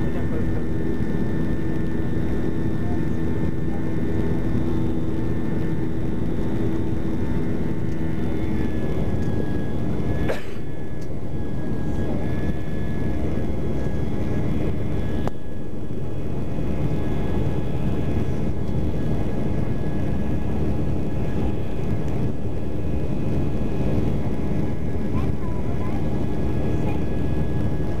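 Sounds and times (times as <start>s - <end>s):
airplane cabin engine noise: 0.0s - 28.0s
faint steady tones: 0.0s - 28.0s.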